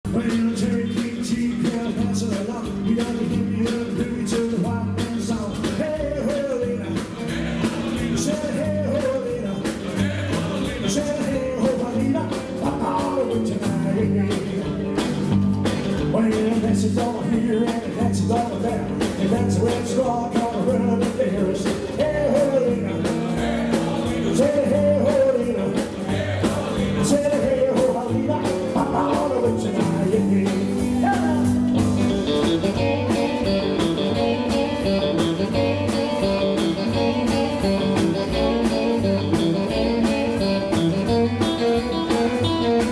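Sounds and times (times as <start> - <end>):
drums at a steady beat: 0.0 - 42.9
person singing: 0.1 - 15.0, 16.1 - 42.9
electric guitar: 0.1 - 42.9
upright double bass: 0.1 - 42.9.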